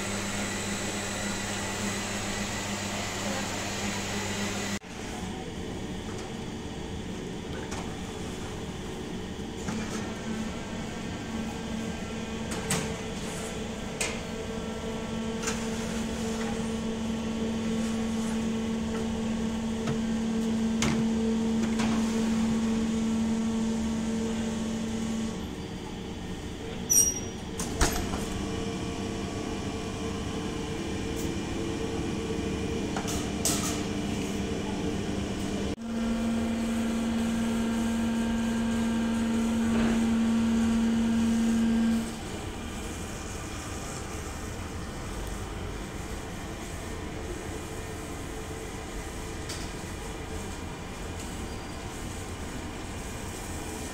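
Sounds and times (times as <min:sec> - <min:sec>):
bakery machine hum: 0:00.0 - 0:53.9.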